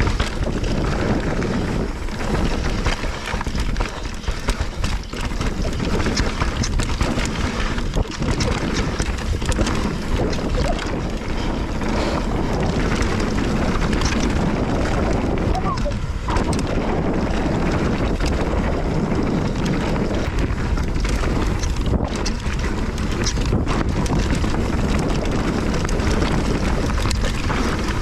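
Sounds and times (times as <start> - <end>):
bike rattling and clicking: 0.0 - 28.0
bike tyres rolling on dirt: 0.0 - 28.0
wind on microphone: 0.0 - 28.0.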